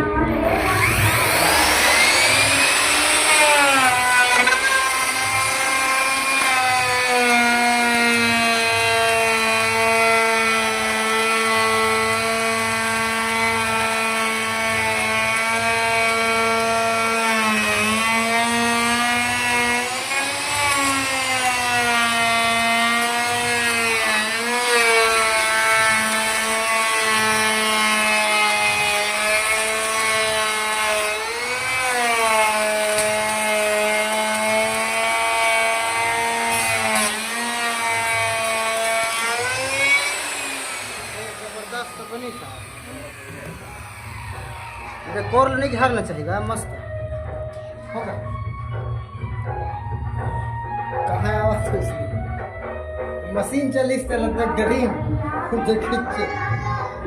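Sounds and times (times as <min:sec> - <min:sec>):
power tool whining: 0:00.0 - 0:46.9.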